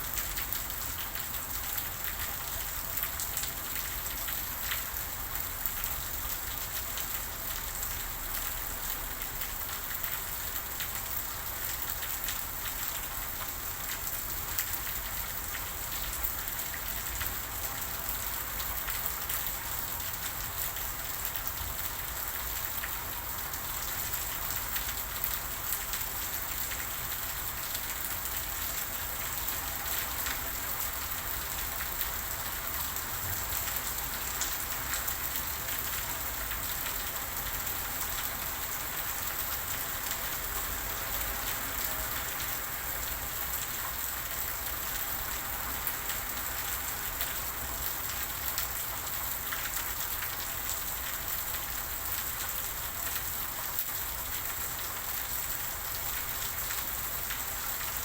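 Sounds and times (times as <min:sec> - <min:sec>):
raindrops ticking on hard surface: 0:00.0 - 0:58.0
steady rain hiss: 0:00.0 - 0:58.0.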